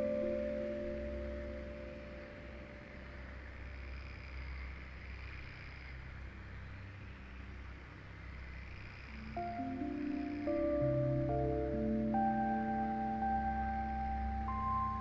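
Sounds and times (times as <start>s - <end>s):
faint high insect buzz: 0.0s - 15.0s
wind through trees: 0.0s - 15.0s.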